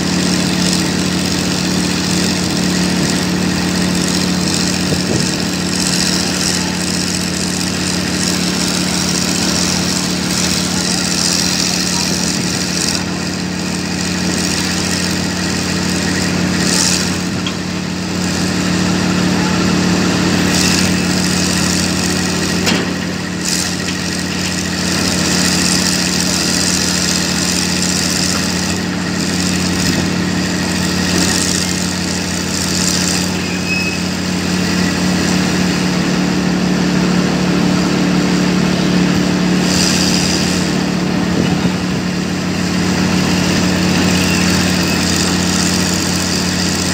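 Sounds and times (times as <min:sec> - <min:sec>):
excavator diesel engines running: 0:00.0 - 0:46.9.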